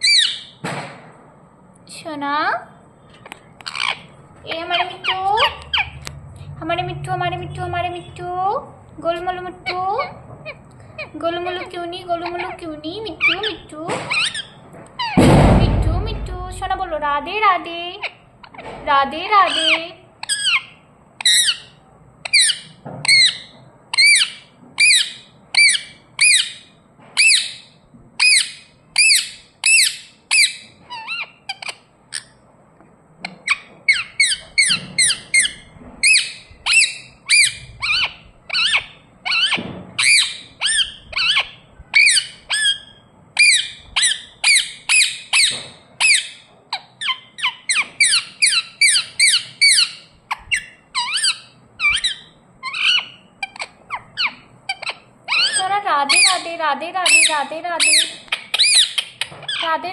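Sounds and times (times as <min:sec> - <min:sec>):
parakeet chirping: 0:00.0 - 0:00.6, 0:03.0 - 0:08.2, 0:09.1 - 0:15.2, 0:17.9 - 0:32.4, 0:33.2 - 0:59.7.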